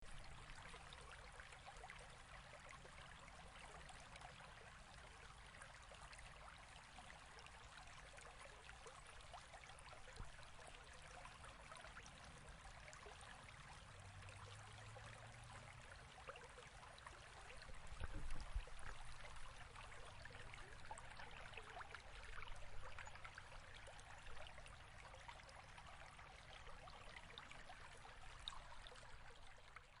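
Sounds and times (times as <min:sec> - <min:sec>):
faint trickling water: 0:00.0 - 0:30.0.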